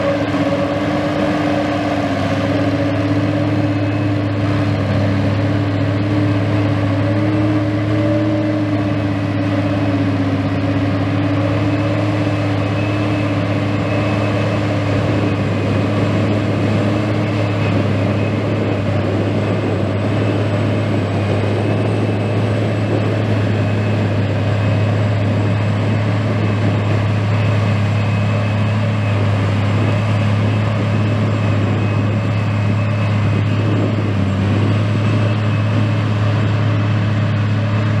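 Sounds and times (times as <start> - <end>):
forage harvester drone: 0.0 - 38.0.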